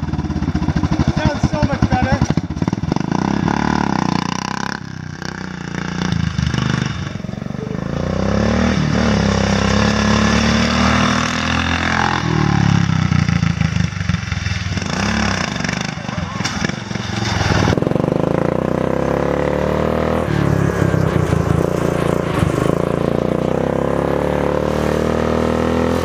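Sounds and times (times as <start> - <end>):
lawn mower engine revving: 0.0 - 26.0.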